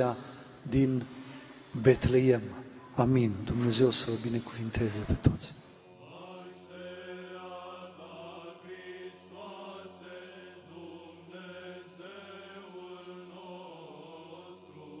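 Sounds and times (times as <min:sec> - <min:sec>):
voices chanting slowly: 0:00.0 - 0:15.0.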